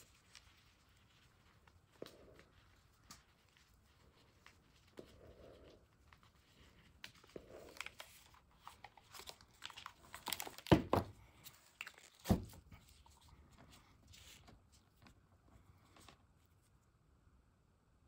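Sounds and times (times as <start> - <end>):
rustling crinkling handling: 0.0 - 16.9.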